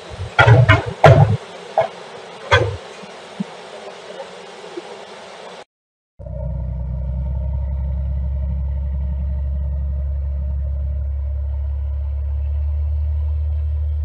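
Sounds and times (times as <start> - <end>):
heavy truck engine rumbling: 0.0 - 5.6, 6.2 - 14.0.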